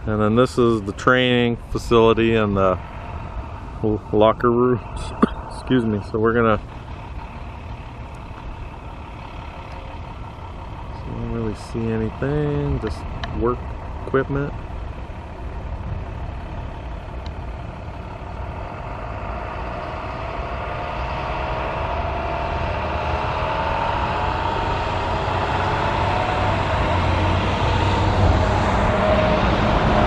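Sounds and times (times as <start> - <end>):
engine approaching with whine: 0.0 - 30.0.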